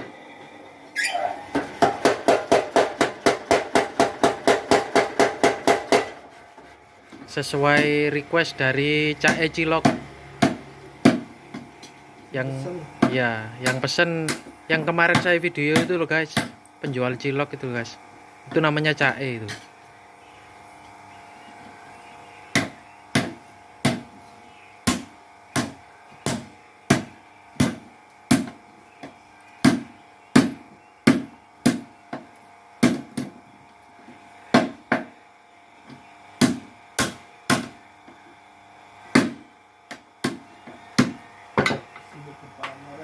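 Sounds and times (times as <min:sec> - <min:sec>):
faint machine hum: 0:00.0 - 0:43.0.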